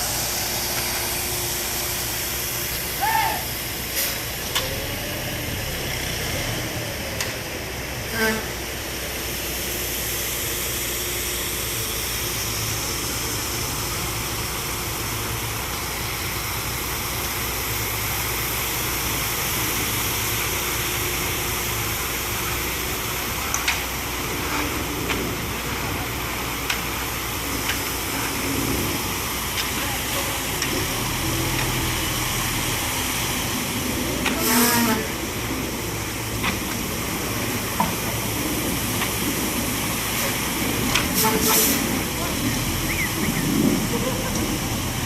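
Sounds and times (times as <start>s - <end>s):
rushing hiss: 0.0s - 5.5s, 8.7s - 45.0s
heavy engine running: 0.0s - 45.0s.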